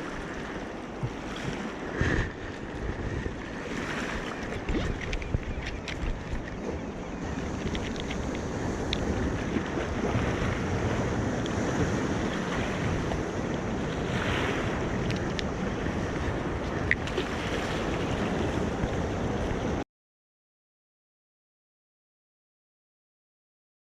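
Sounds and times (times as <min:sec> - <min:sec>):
sea surf: 0:00.0 - 0:19.8
wind buffeting microphone: 0:00.0 - 0:19.8.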